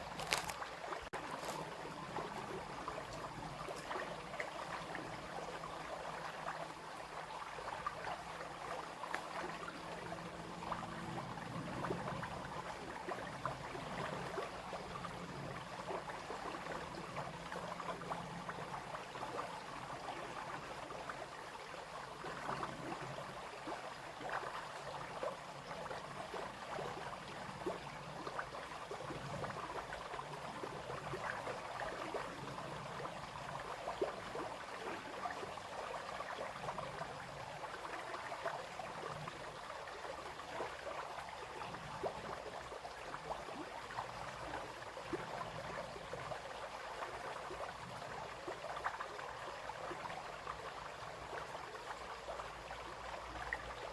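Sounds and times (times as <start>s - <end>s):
brook babbling over stones: 0.0s - 53.9s.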